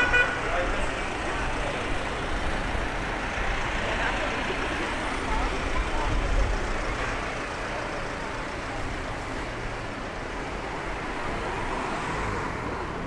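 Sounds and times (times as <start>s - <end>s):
traffic hum: 0.0s - 13.0s
vehicle low rumble: 0.5s - 13.0s.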